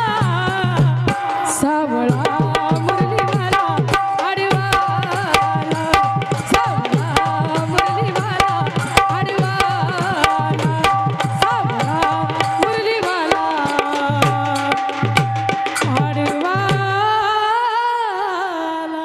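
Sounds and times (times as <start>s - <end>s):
hand drums fast rhythm: 0.0s - 17.2s.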